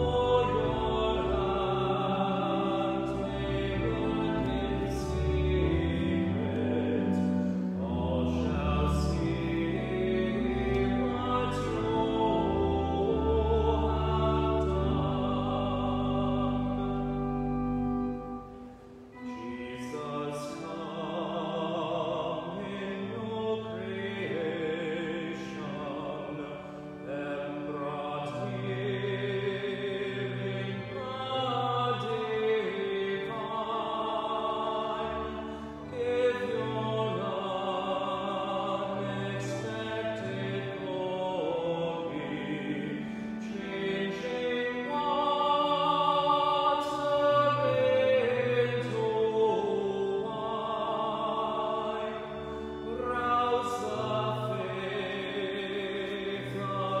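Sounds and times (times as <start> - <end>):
man singing classical: 0.0 - 57.0
sustained keyboard accompaniment: 0.0 - 57.0.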